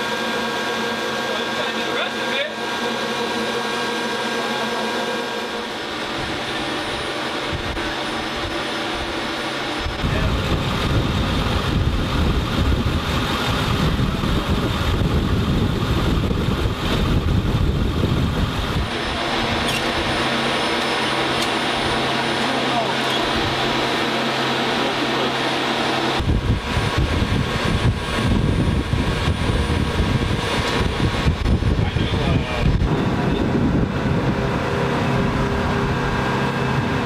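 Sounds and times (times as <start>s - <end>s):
turboprop engine drone: 0.0s - 37.0s.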